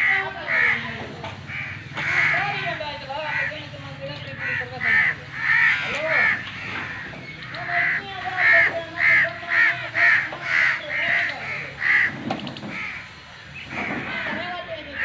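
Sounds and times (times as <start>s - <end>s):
crow cawing: 0.0s - 15.0s.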